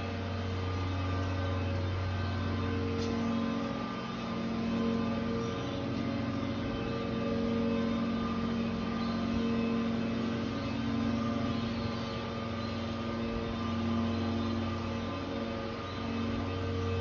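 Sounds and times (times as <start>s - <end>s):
steady mechanical drone: 0.0s - 17.0s.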